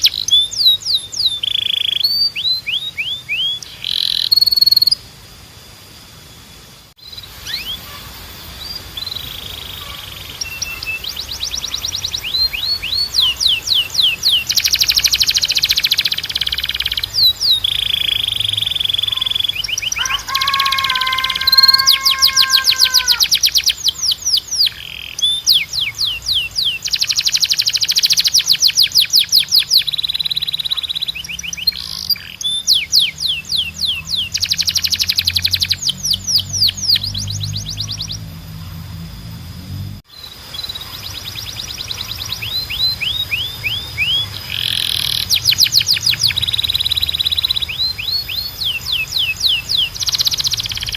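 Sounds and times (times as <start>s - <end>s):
canary singing: 0.0s - 5.1s, 7.0s - 39.0s, 40.1s - 50.9s.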